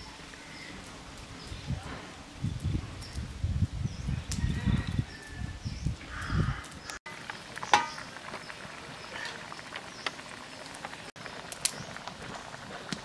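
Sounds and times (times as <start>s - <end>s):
curry simmering and sizzling: 0.0s - 13.0s.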